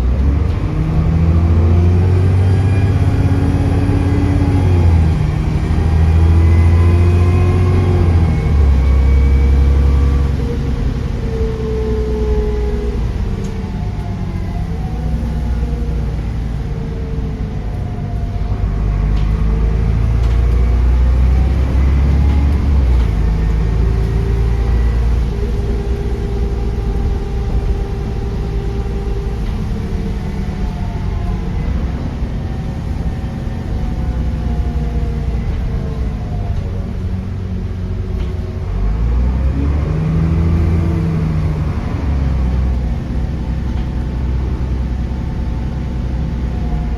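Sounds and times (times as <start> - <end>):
bus diesel engine accelerating: 0.0 - 46.9.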